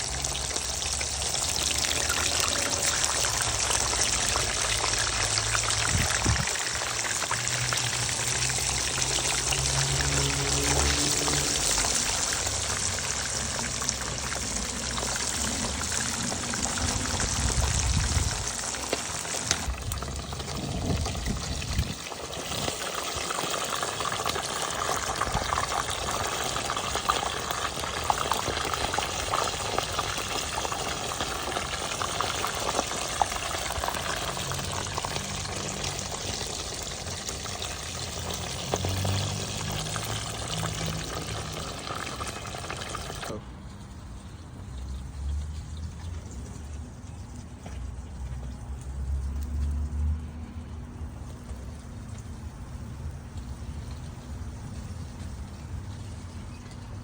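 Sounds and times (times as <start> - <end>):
fish frying in hot oil: 0.0 - 57.0
oil popping and crackling: 0.0 - 57.0.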